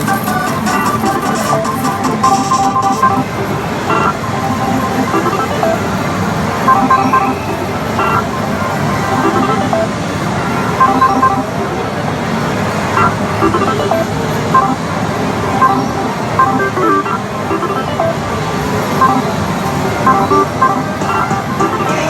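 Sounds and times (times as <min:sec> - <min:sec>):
slot machine beeps and jingles: 0:00.0 - 0:11.8, 0:12.8 - 0:22.0
dense machine noise: 0:00.0 - 0:22.0.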